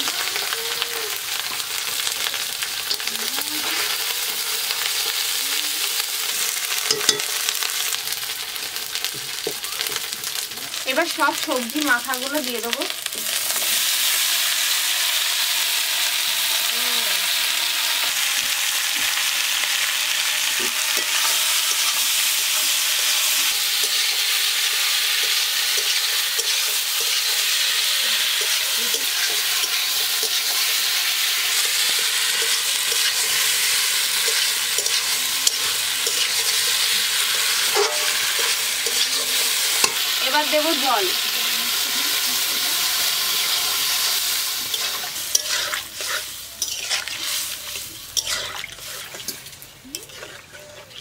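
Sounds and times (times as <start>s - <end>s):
vegetables sizzling in hot oil: 0.0s - 51.0s.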